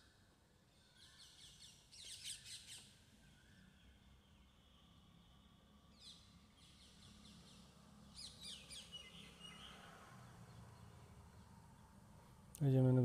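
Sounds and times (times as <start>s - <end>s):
faint bird chirps: 0.0s - 11.9s.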